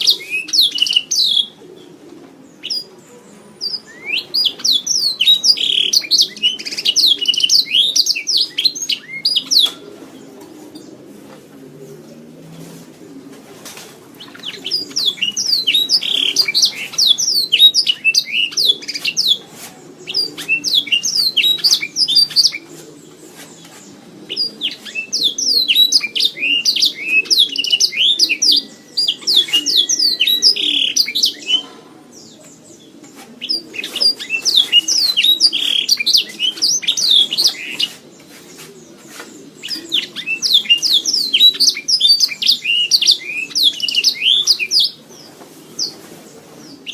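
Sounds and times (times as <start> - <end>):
canary singing trills: 0.0 - 9.8, 14.2 - 46.0.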